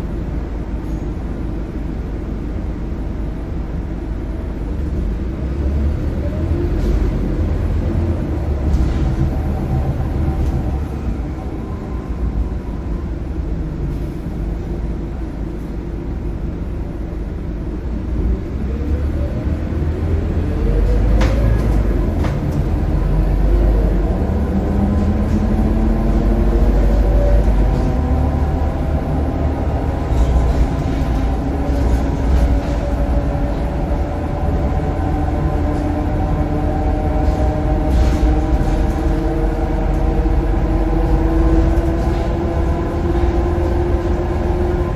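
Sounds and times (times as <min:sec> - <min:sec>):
bus engine rumbling: 0:00.0 - 0:44.9
rising whine of bus: 0:00.0 - 0:44.9.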